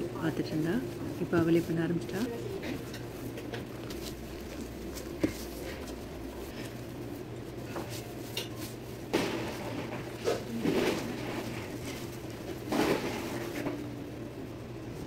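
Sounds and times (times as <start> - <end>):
low steady hum: 0.0 - 15.0
paper rustling and crinkling: 0.1 - 14.0.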